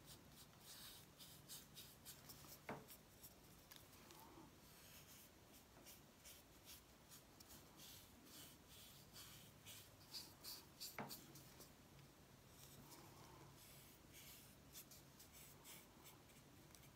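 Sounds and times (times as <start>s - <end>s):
paintbrush strokes on hard shell: 0.0s - 11.8s, 12.4s - 16.9s.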